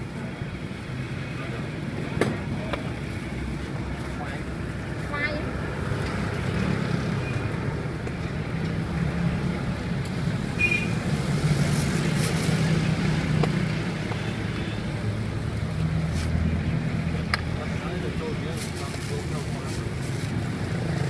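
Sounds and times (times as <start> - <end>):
street traffic engine rumble: 0.0 - 21.0.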